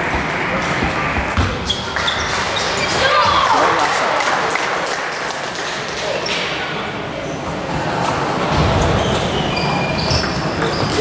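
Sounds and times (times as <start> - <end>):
echoing murmur of voices: 0.0 - 11.0.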